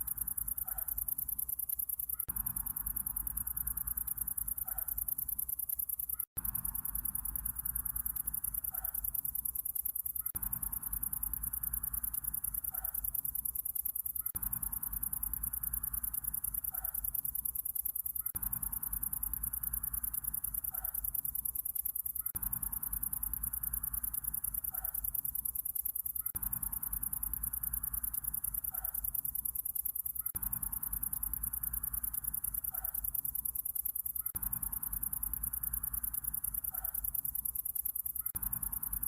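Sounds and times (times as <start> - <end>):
crickets chirping: 0.0 - 39.0
lower insect call: 0.0 - 39.0.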